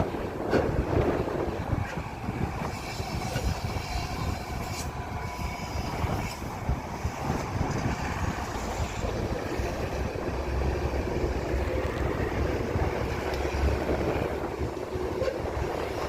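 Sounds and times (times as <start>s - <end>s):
vehicle rumbling on rough road: 0.0s - 16.0s.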